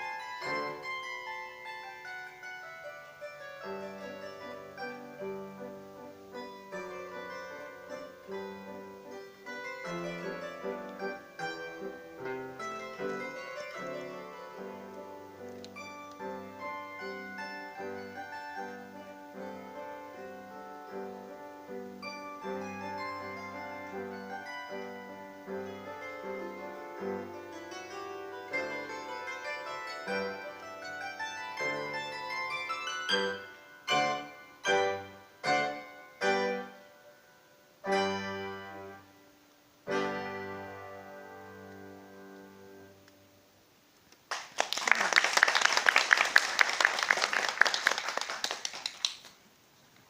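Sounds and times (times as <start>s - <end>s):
bandura plucked notes and chords: 0.0s - 37.2s, 37.8s - 39.2s, 39.9s - 43.0s.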